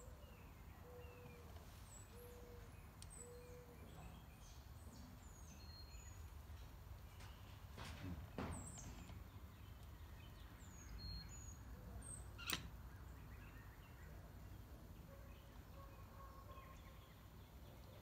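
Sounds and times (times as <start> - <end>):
bird chirps: 0.0 - 6.3, 8.6 - 18.0.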